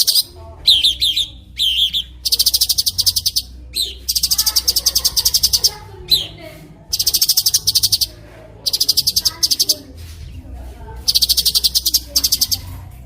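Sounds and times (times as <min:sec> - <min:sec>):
bird song with buzzy trills: 0:00.0 - 0:09.9, 0:11.1 - 0:12.9.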